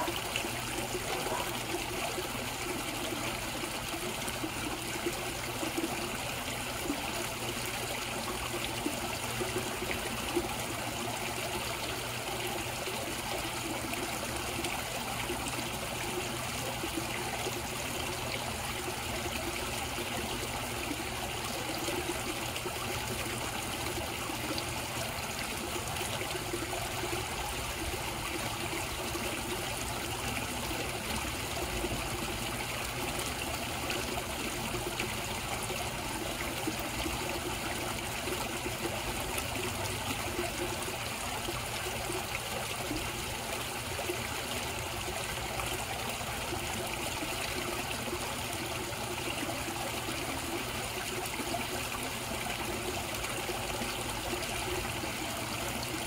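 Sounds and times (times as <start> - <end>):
pond water trickling and splashing: 0.0 - 56.0.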